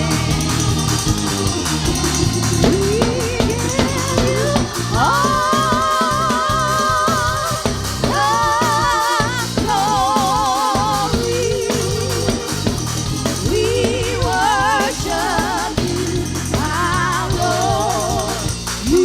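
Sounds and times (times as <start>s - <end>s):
bass line: 0.0s - 19.0s
percussion: 0.0s - 19.0s
person singing gospel: 0.0s - 19.0s.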